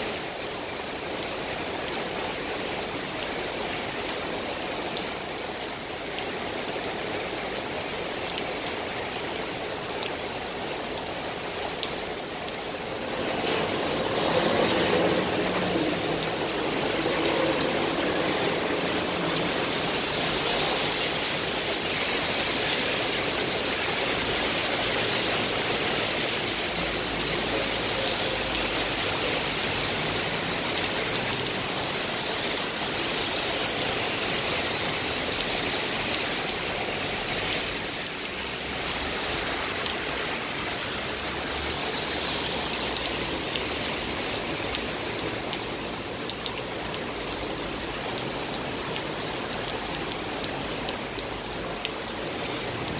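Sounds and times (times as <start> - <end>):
heavy rain on pavement: 0.0 - 52.9.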